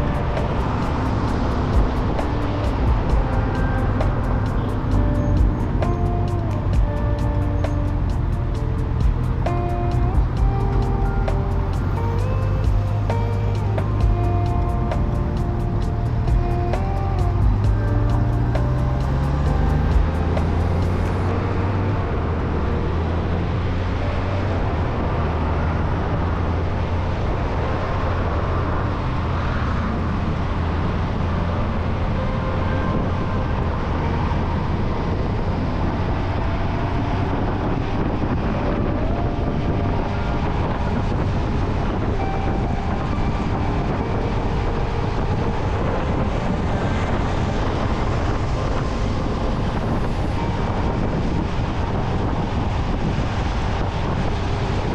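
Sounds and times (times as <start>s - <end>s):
motorcycle engine drone: 0.0s - 54.9s
wind and road noise: 0.0s - 54.9s.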